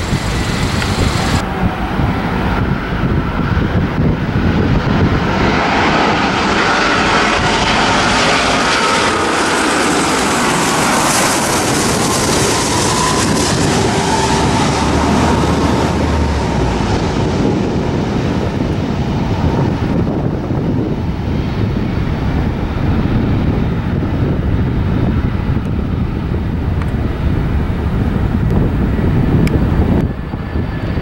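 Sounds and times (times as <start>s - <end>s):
jet engines roaring overhead: 0.0s - 31.0s.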